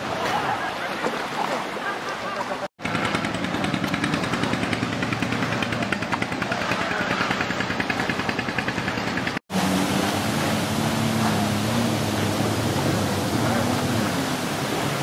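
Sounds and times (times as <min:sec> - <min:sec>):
rushing spray: 0:00.0 - 0:15.0
jet ski engine running: 0:02.8 - 0:15.0.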